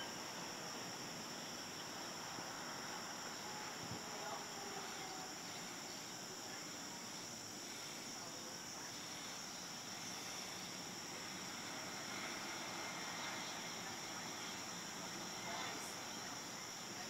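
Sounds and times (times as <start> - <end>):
crickets trilling: 0.0 - 17.0
faint background hiss: 0.0 - 17.0.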